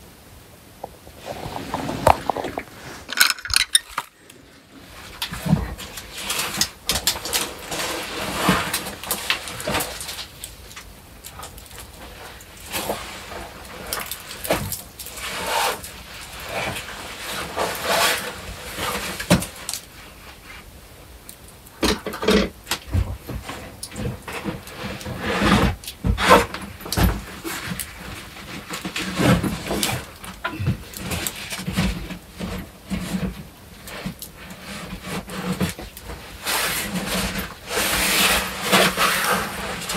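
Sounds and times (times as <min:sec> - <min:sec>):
scrapes and knocks of climbing: 0:00.8 - 0:39.9.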